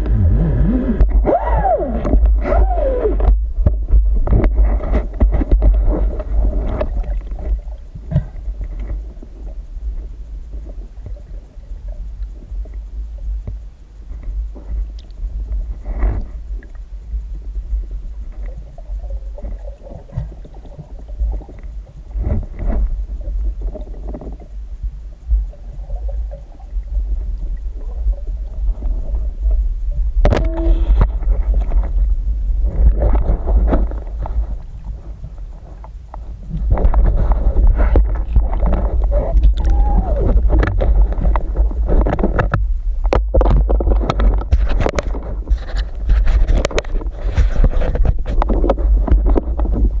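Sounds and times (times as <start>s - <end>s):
soft knocks and gurgles: 0.0s - 11.5s, 13.4s - 17.2s, 18.2s - 50.0s
muffled underwater rumble: 0.0s - 50.0s.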